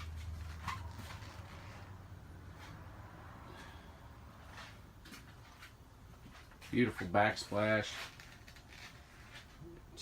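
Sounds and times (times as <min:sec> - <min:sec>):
soft rustles: 0:00.0 - 0:02.9, 0:04.4 - 0:09.8.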